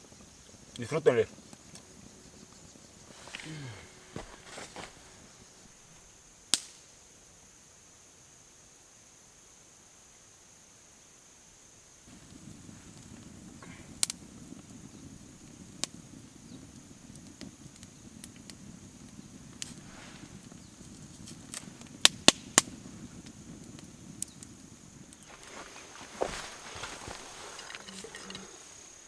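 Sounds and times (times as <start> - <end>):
fire crackling pops: 0.0 - 7.4, 12.0 - 29.0
campfire burning: 0.0 - 7.7, 11.8 - 29.0.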